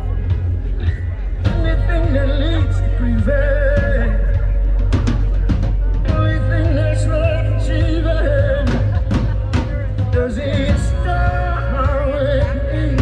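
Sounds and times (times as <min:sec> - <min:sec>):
guitars: 0:00.0 - 0:13.0
live band playing: 0:00.0 - 0:13.0
drum hits: 0:00.2 - 0:12.2
person singing long notes: 0:01.4 - 0:13.0.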